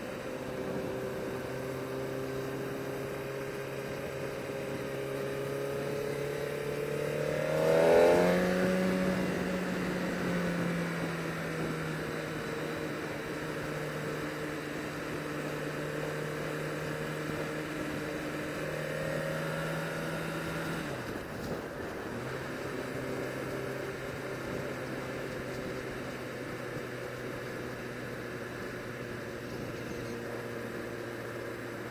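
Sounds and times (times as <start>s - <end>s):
sport motorcycle engine: 0.0s - 31.9s.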